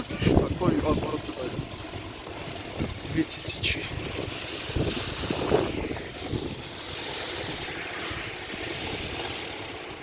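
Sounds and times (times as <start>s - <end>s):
wind buffeting microphone: 0.0s - 9.8s
wind turbine propeller whirring: 0.0s - 10.0s.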